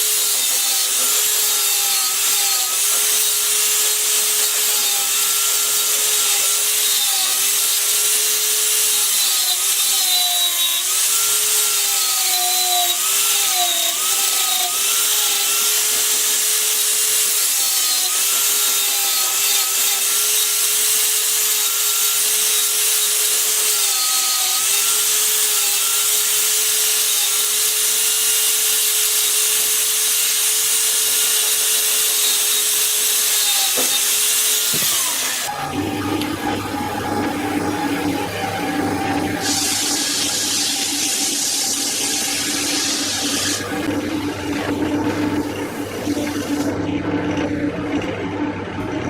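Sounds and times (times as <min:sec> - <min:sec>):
hissing wood cutting noise: 0:00.0 - 0:46.8
power tool motor whine: 0:00.0 - 0:46.9.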